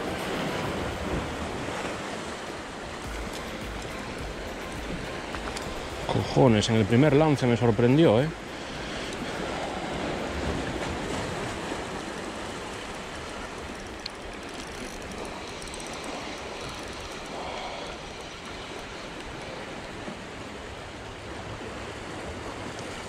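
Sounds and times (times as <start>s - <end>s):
surf washing against rocks: 0.0s - 23.0s.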